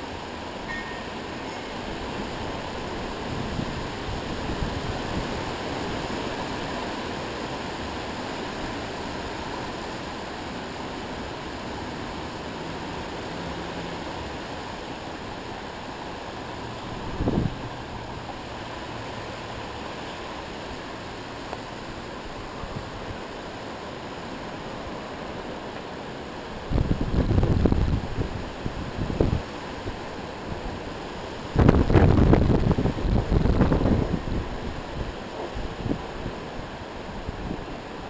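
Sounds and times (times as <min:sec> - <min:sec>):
storm wind gusting: 0:00.7 - 0:12.8, 0:14.1 - 0:23.4, 0:26.4 - 0:38.0.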